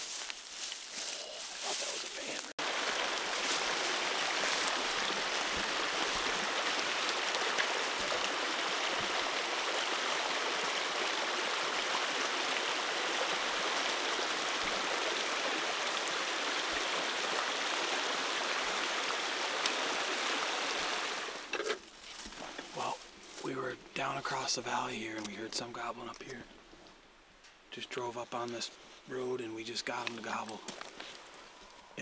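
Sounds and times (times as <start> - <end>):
running water: 0.0 - 26.3.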